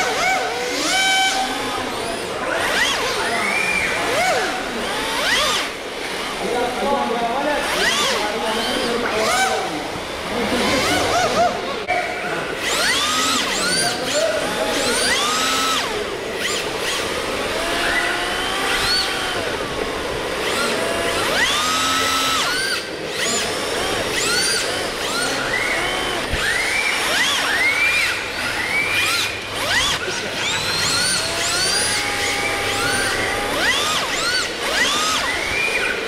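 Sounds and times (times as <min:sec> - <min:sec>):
electric motors whining: 0:00.0 - 0:36.0.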